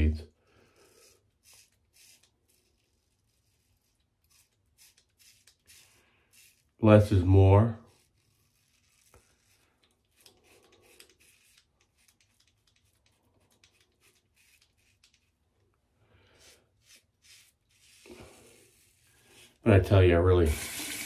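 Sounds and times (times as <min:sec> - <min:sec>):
razor scraping stubble: 0:00.8 - 0:19.6.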